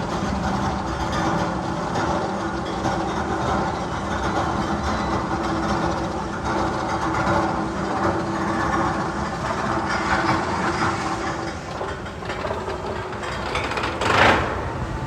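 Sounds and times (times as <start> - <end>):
train-like rumble and clatter: 0.0 - 15.0.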